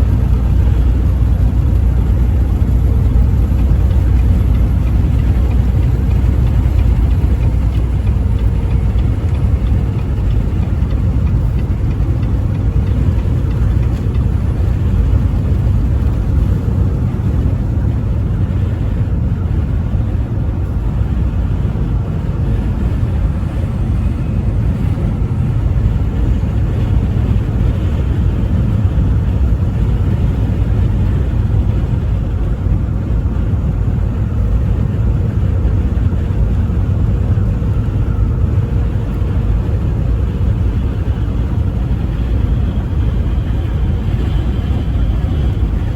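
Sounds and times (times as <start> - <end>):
vehicle cruising on highway: 0.0 - 45.9.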